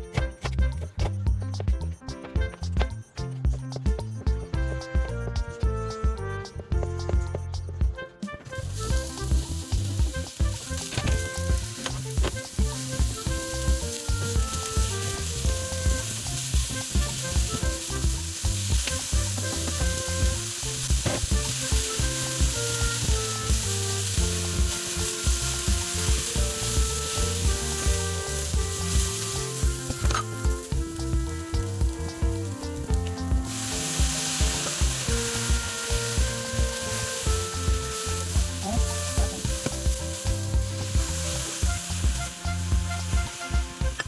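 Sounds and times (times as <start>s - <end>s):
food sizzling in frying pan: 8.7s - 44.0s.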